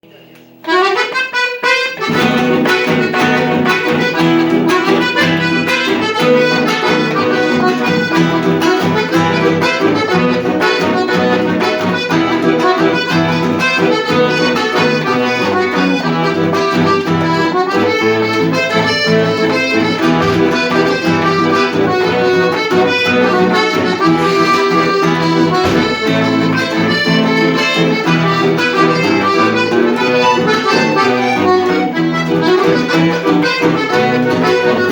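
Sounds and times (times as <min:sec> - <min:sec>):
accordion music with steady beat: 0:00.3 - 0:34.9.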